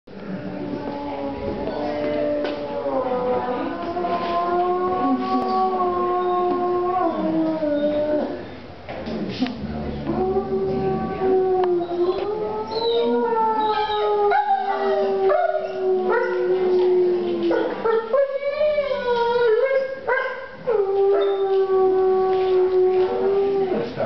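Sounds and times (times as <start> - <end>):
wolf howling: 0.7 - 8.5, 9.6 - 23.9.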